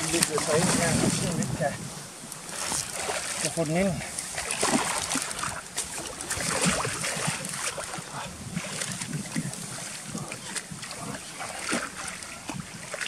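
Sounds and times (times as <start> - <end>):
wind on microphone: 0.0 - 13.0
fish splashing in water: 2.4 - 13.0.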